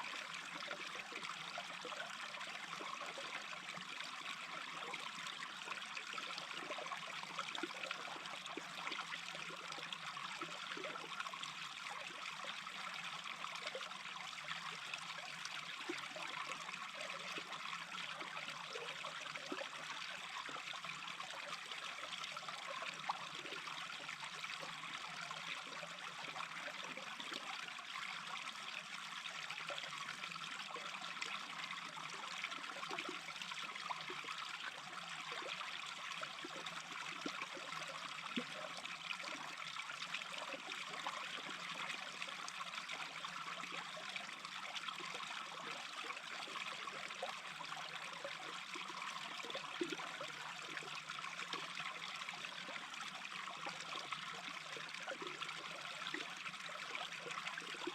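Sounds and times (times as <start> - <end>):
brook babbling over stones: 0.0 - 57.9.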